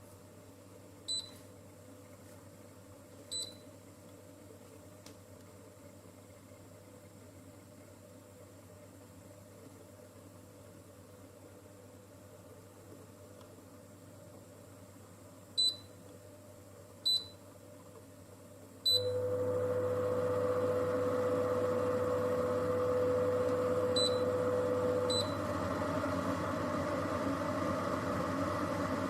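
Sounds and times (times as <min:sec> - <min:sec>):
humidifier fan running: 0:00.0 - 0:29.0.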